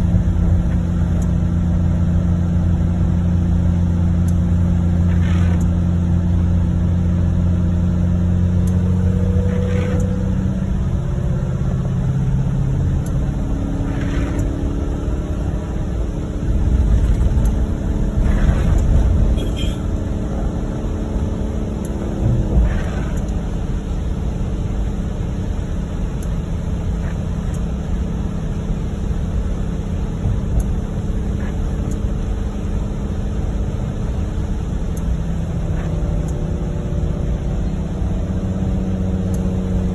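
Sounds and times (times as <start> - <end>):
car engine hum: 0.0 - 39.9
tyres on wet road: 0.0 - 39.9.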